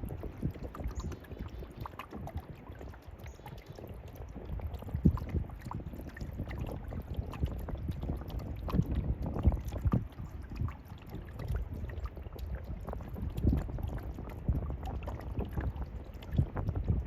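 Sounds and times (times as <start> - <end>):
paddle strokes in water: 0.0 - 17.0
wind rumble on microphone: 0.0 - 17.0.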